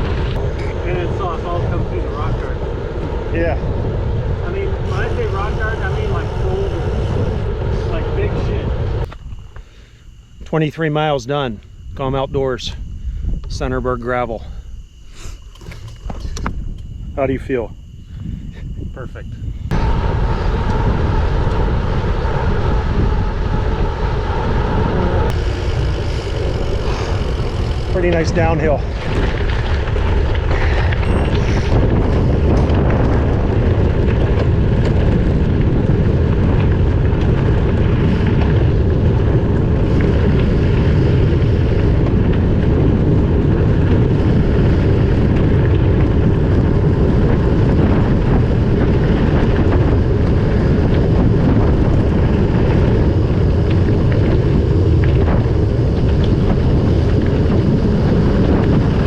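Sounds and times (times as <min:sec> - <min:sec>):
wind on camera microphone: 0:00.0 - 0:59.0.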